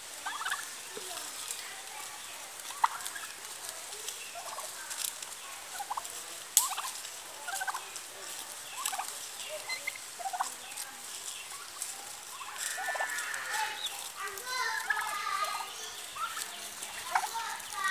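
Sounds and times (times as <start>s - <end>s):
turkeys calling: 0.0s - 17.9s.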